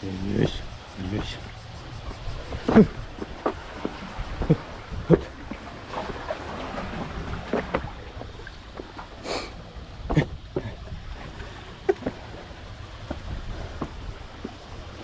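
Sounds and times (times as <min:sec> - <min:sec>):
wind on microphone: 0:00.0 - 0:08.9, 0:09.5 - 0:15.0
seawater washing around concrete: 0:00.0 - 0:15.0.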